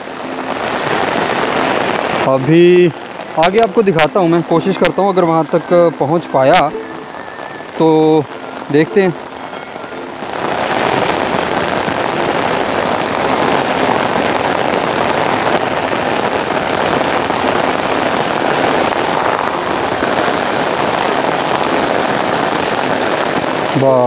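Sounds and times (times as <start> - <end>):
heavy rain on paved road: 0.0 - 24.0.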